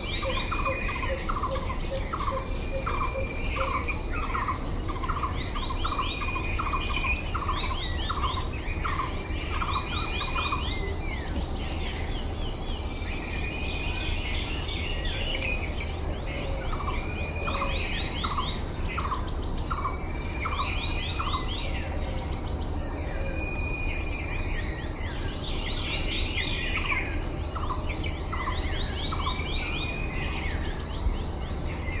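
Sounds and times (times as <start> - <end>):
birds chirping: 0.0 - 32.0
high insect drone: 0.0 - 32.0.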